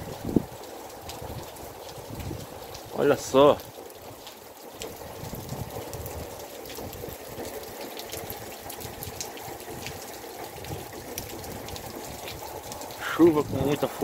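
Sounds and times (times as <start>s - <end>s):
heavy rain falling: 0.0s - 14.0s
runoff water streaming: 0.0s - 14.0s.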